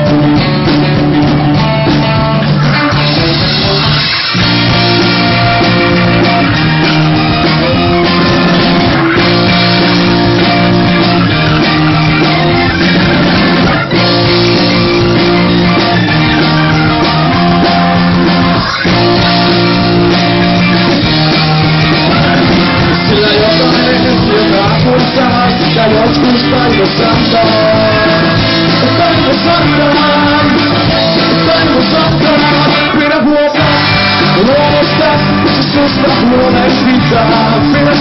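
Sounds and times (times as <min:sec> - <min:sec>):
guitar chords: 0:00.0 - 0:38.0
person singing: 0:00.0 - 0:38.0
rock band playing live: 0:00.0 - 0:38.0.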